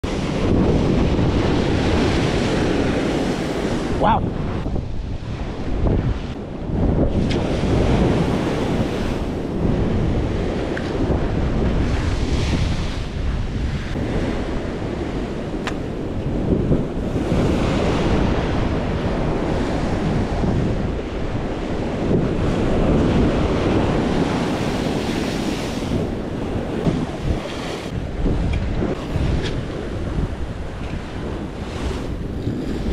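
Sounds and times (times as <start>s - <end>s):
sea waves breaking on rocks: 0.0s - 32.9s
wind buffeting microphone: 0.0s - 32.9s.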